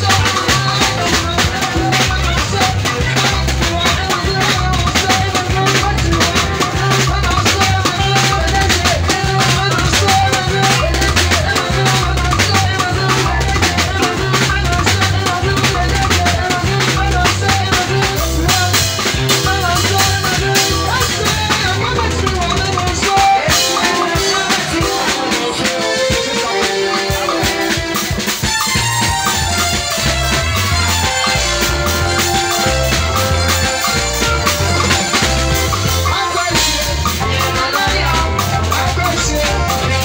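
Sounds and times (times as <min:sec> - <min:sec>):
drum kit: 0:00.0 - 0:40.0
guitar: 0:00.0 - 0:40.0
repeating bass line: 0:00.0 - 0:40.0.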